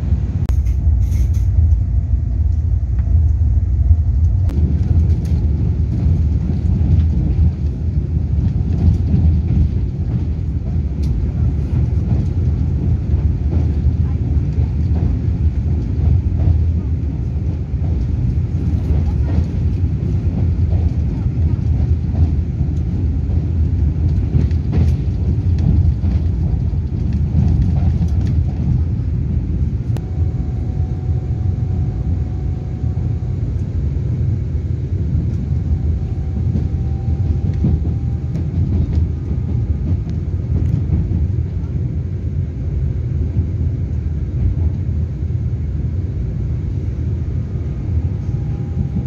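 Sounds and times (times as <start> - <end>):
train cabin running rumble: 0.0 - 49.0.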